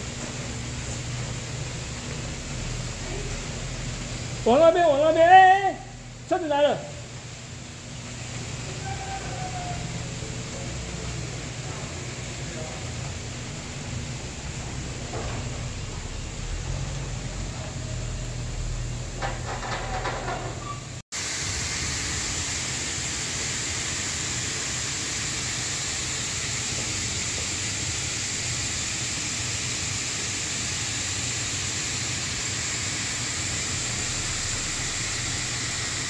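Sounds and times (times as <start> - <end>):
foam system rushing hiss: 0.0 - 19.2, 21.1 - 36.0.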